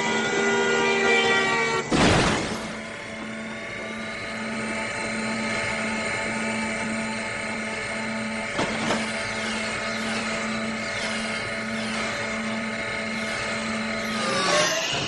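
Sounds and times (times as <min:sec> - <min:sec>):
cartoon machine hum and whine: 0:00.0 - 0:15.0.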